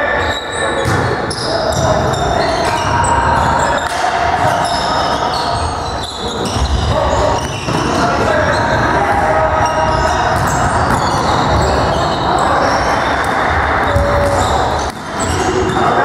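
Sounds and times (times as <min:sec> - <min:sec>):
sneakers squeaking on floor: 0:00.0 - 0:16.0.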